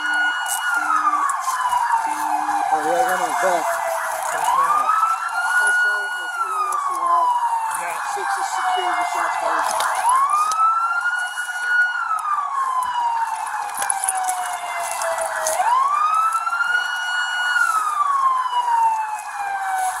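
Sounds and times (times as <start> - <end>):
emergency vehicle siren wailing: 0.0 - 20.0.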